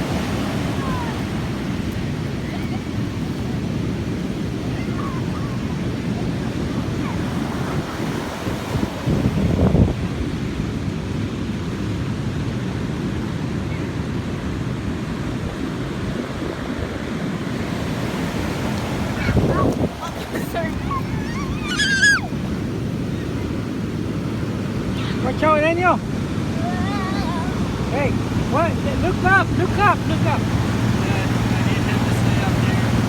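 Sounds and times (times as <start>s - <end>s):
wind rumbling on microphone: 0.0s - 11.9s, 12.8s - 33.0s
ocean surf washing in: 0.0s - 33.0s.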